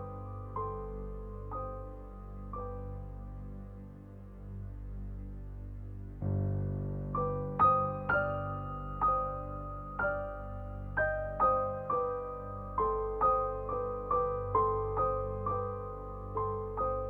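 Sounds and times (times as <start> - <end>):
gentle piano notes: 0.0 - 17.0
soft low sustained pad: 0.0 - 17.0.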